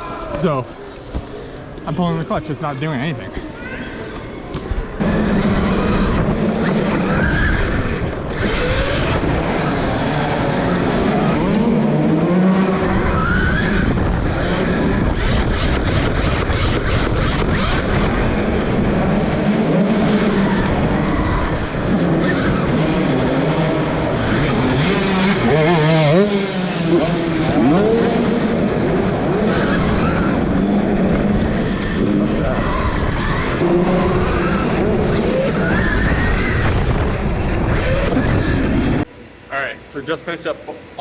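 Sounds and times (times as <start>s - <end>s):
dirt bike engine revving: 4.9s - 39.1s.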